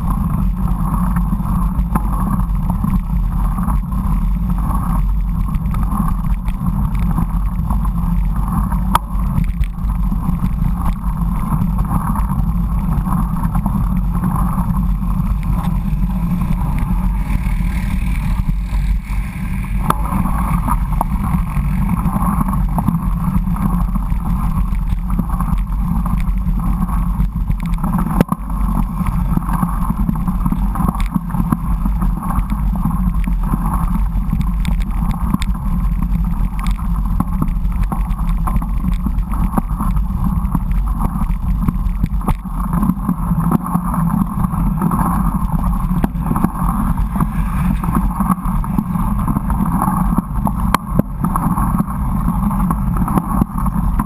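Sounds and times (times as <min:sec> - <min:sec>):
bike tyre rolling on asphalt: 0:00.0 - 0:54.0
wind on microphone: 0:00.0 - 0:54.0.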